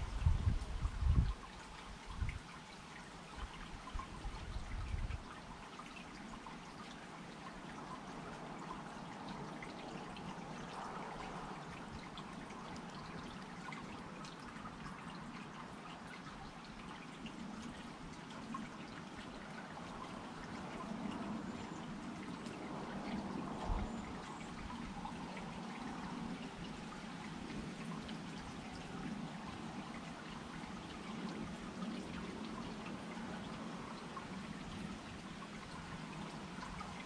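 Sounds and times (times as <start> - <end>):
water fountain trickling: 0.0 - 37.0.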